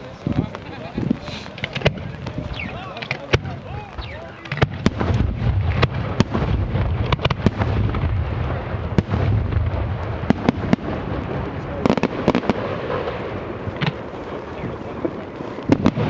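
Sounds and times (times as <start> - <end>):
continuous low rumble: 0.0 - 16.0
fireworks bangs and crackles: 0.0 - 16.0.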